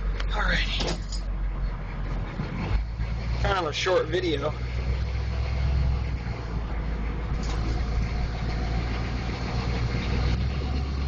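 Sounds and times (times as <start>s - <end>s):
diesel engine idling with open exhaust: 0.0s - 11.0s.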